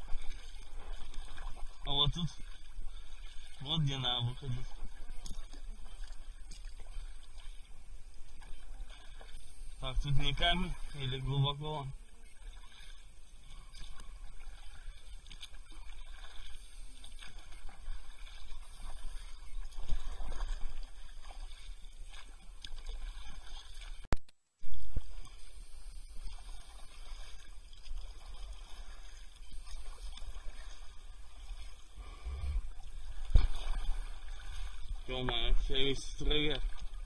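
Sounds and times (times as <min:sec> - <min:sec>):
paddle splashes: 0:00.0 - 0:24.1, 0:24.8 - 0:37.0.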